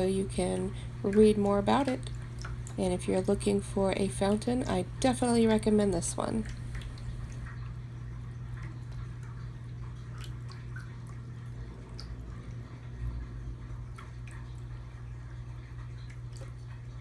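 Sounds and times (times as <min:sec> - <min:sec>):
steady low hum: 0:00.0 - 0:17.0
water trickling and dripping: 0:00.0 - 0:17.0.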